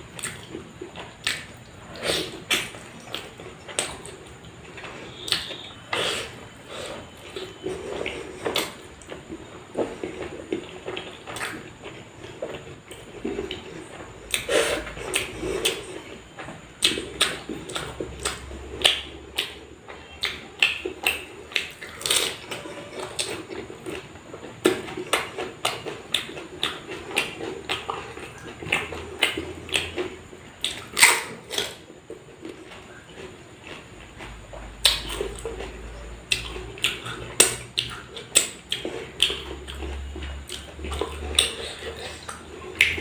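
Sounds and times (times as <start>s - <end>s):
chewing and mouth sounds: 0.1s - 43.0s.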